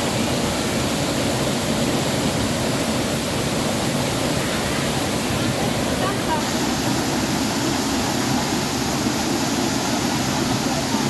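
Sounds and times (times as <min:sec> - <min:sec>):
waterfall rushing and splashing: 0:00.0 - 0:11.0.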